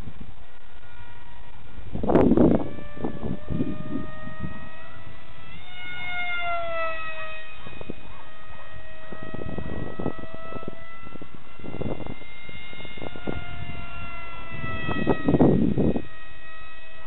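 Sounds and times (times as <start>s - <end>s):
high-pitched model jet motor whine: 0.0s - 17.0s.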